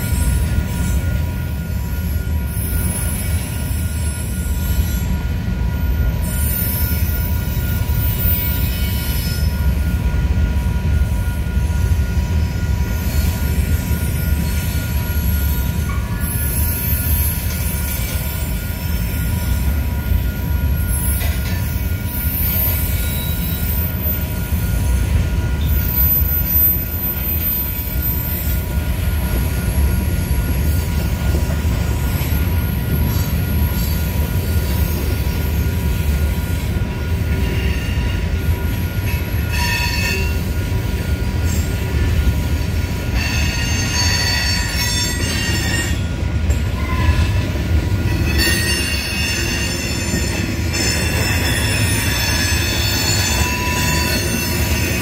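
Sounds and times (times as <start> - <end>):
high wheel squeal: 0.0 - 10.1, 10.8 - 55.0
freight train wheels rumbling: 0.0 - 55.0.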